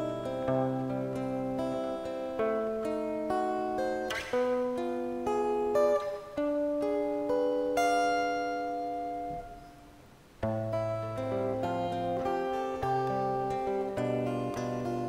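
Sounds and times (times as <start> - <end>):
fingerpicked guitar melody: 0.0 - 15.0.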